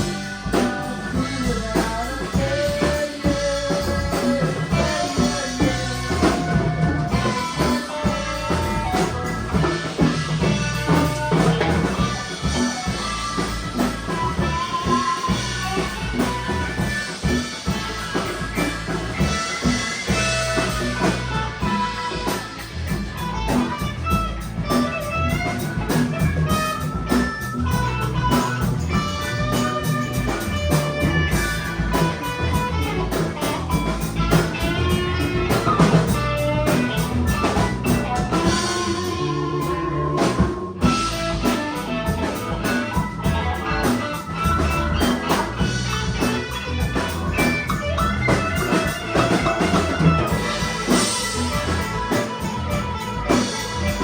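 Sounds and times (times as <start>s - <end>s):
bass guitar: 0.0s - 54.0s
drum kit: 0.0s - 54.0s
electric guitar lines: 0.0s - 54.0s.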